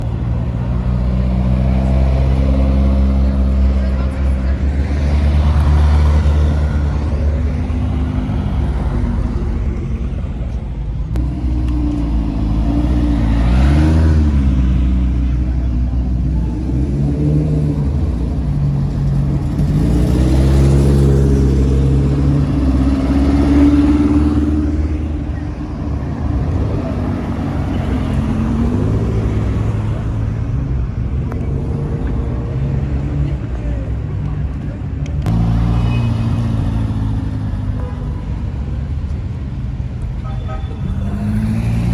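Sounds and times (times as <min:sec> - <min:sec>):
car engines idling and revving: 0:00.0 - 0:41.9.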